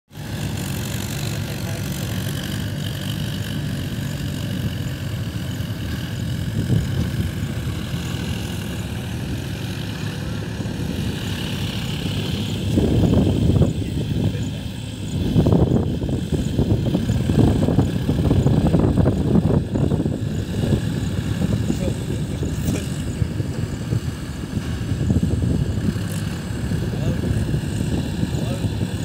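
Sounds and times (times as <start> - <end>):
tractor diesel engines droning: 0.1 - 29.0.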